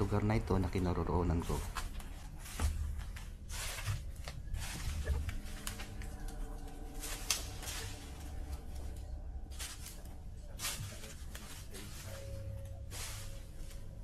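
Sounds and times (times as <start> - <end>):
footsteps crunching dry leaves: 1.4 - 14.0.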